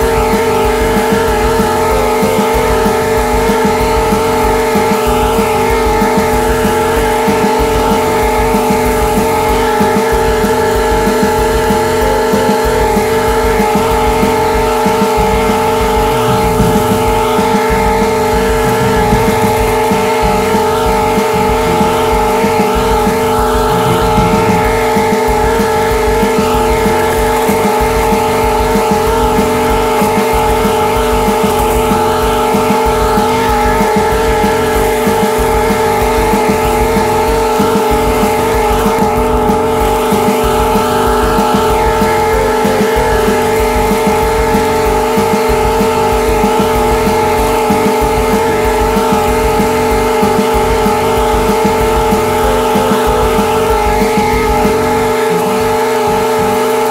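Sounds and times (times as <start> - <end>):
lawn mower engine drone: 0.0 - 56.9.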